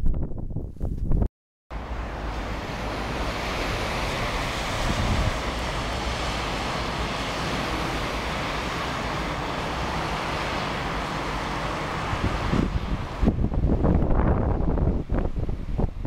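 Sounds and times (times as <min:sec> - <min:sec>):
wind rumbling on microphone: 0:00.0 - 0:16.0
vehicles passing on slushy road: 0:01.7 - 0:16.0.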